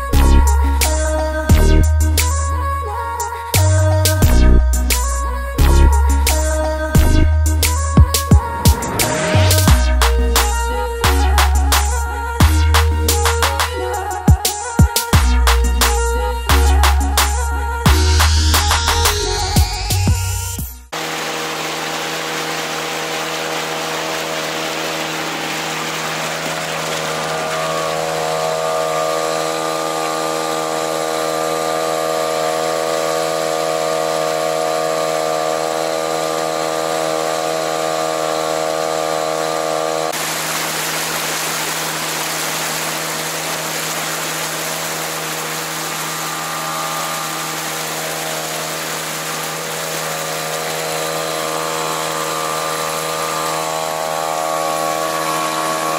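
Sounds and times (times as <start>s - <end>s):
outboard motor running: 0.0s - 55.9s.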